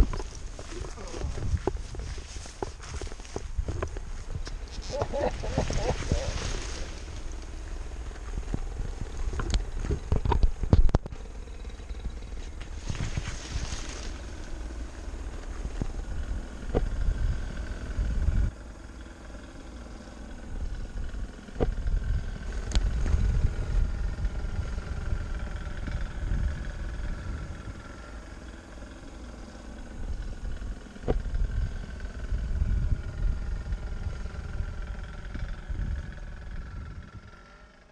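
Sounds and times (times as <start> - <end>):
wind rumble on microphone: 0.0 - 18.7, 20.4 - 37.6
distant paramotor engine droning: 0.0 - 37.9.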